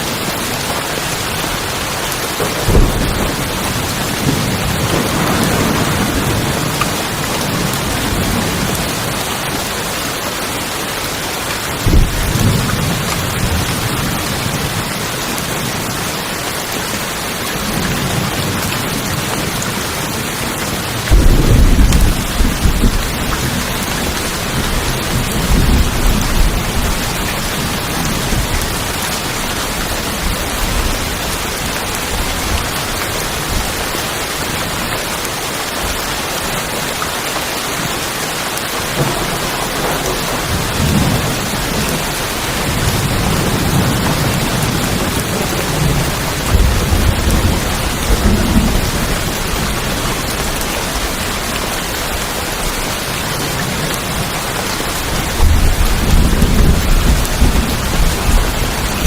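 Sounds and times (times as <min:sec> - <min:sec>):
heavy rain on tin roofs: 0:00.0 - 0:59.0
thunder claps and rumbling: 0:00.2 - 0:10.1, 0:11.5 - 0:16.8, 0:17.4 - 0:34.9, 0:38.8 - 0:59.0.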